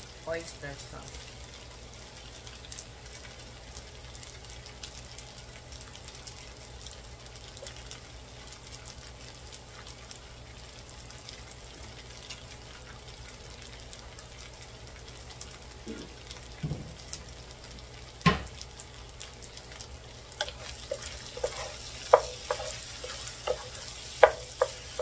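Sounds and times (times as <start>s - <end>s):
rice sizzling in a skillet: 0.0s - 25.0s.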